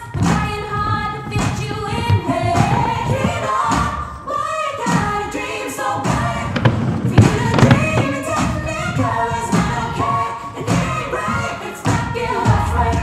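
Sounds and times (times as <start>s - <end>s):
thuds: 0.0s - 4.2s, 6.0s - 13.0s
voices singing over music: 0.0s - 13.0s.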